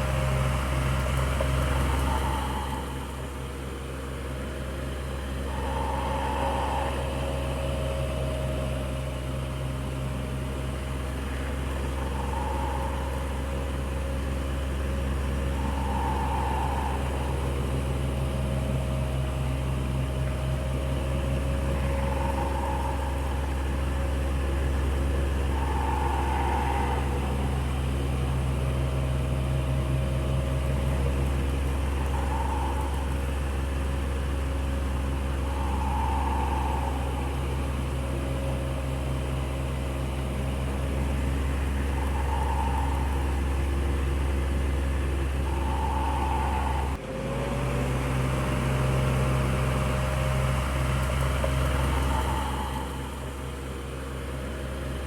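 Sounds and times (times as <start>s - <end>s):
electric fan running: 0.0s - 47.0s.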